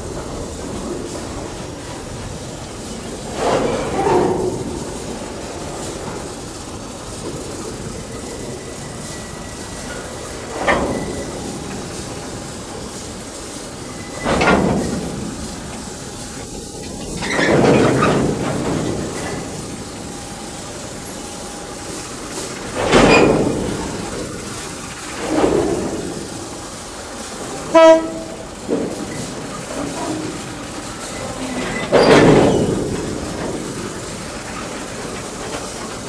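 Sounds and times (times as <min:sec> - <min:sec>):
locomotive running noise: 0:00.0 - 0:36.0.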